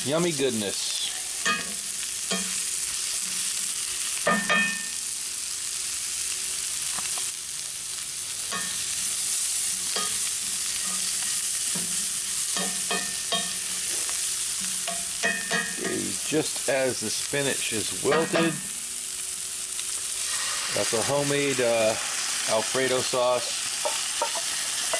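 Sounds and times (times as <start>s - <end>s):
vegetables sizzling in butter: 0.0s - 24.9s.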